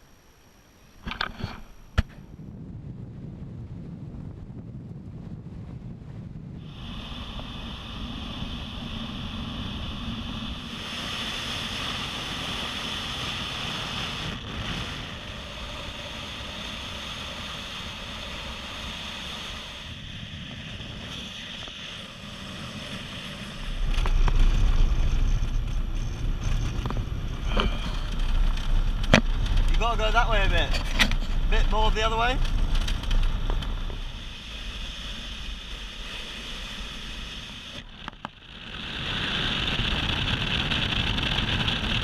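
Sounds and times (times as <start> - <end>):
wind buffeting microphone: 1.9 - 42.0.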